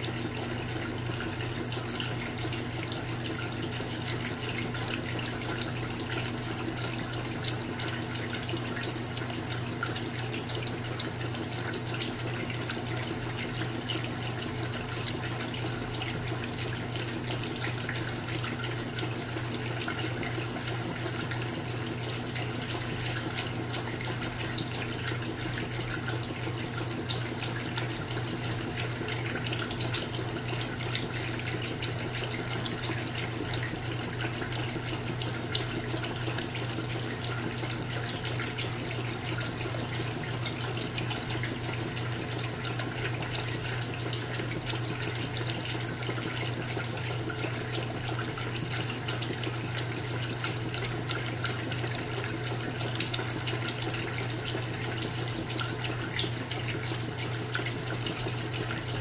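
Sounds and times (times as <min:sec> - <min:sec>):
washing machine low hum: 0:00.0 - 0:59.0
water sloshing and churning: 0:00.0 - 0:59.0.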